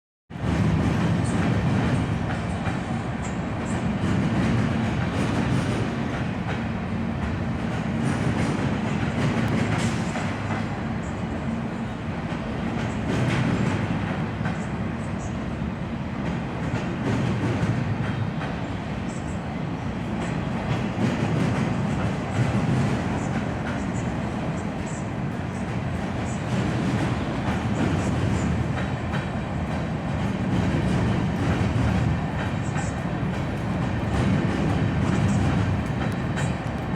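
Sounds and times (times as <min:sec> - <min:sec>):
train car rumbling: 0:00.3 - 0:36.9.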